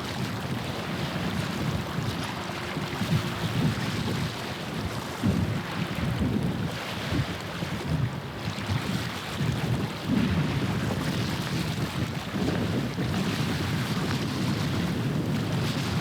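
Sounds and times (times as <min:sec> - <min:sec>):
boat engine drone: 0:00.0 - 0:16.0
wind gusting on microphone: 0:00.0 - 0:16.0.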